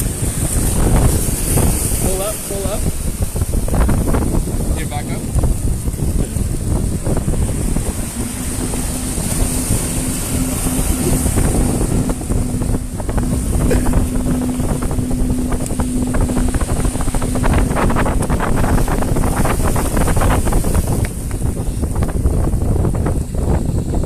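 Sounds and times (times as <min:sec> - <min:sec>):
surf washing on rocks: 0:00.0 - 0:24.0
wind buffeting microphone: 0:00.0 - 0:24.0.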